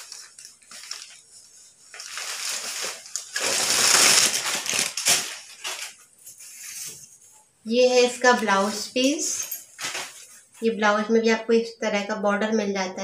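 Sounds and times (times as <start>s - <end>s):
fabric rustling and swishing: 0.0s - 10.7s.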